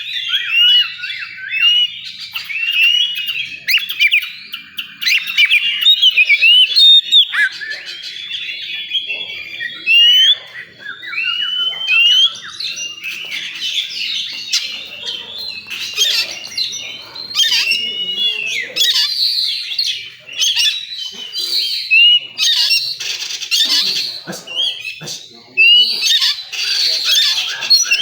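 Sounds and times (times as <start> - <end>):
bird singing whistles and chatter: 0.0 - 28.0.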